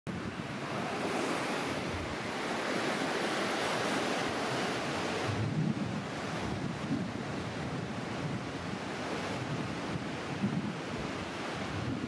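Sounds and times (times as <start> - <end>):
surf washing up a beach: 0.1 - 12.0
wind rumbling on microphone: 0.1 - 12.0.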